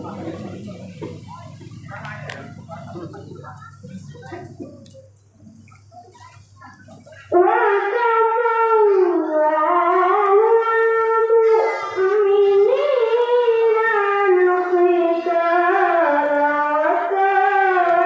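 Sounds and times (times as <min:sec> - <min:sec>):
boy reciting melodically: 0:00.0 - 0:18.0.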